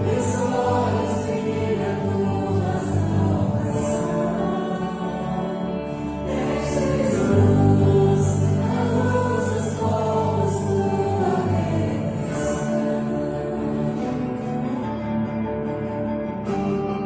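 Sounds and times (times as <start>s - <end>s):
choir singing worship song: 0.0s - 15.4s.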